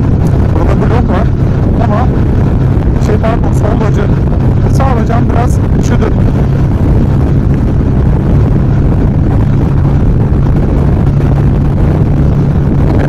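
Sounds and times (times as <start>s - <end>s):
motorcycle engine droning: 0.0s - 13.0s
wind rushing on microphone: 0.0s - 13.0s.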